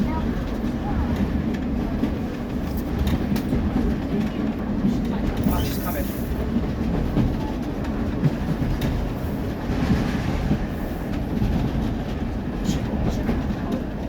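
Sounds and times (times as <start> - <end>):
railway carriage rumble: 0.0 - 14.0.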